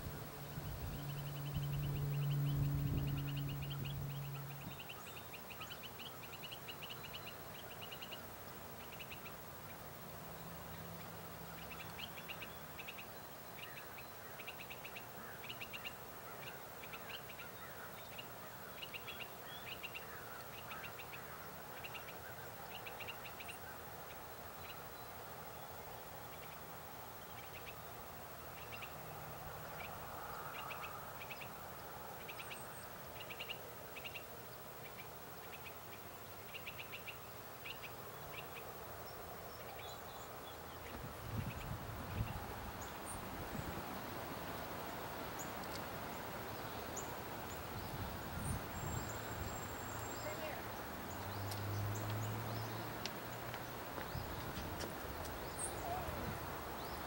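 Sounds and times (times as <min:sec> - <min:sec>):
background hiss: 0:00.0 - 0:57.0
birds chirping: 0:00.0 - 0:57.0.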